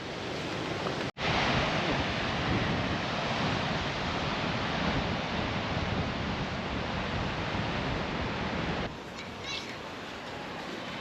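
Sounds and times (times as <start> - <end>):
ocean waves breaking: 0.0 - 11.0
wind rushing over microphone: 0.0 - 11.0.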